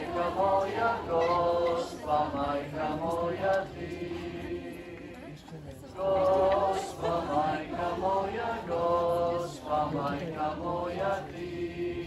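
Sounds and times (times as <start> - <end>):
voices singing a hymn: 0.0 - 12.0.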